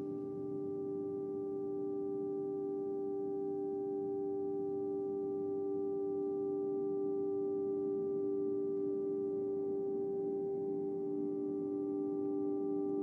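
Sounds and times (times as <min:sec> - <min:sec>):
drone of pure tones: 0:00.0 - 0:13.0.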